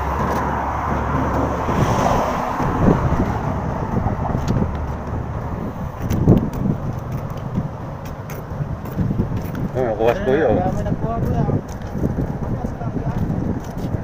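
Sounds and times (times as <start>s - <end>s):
road traffic rumble: 0.0s - 14.0s
wind on microphone: 0.0s - 14.0s.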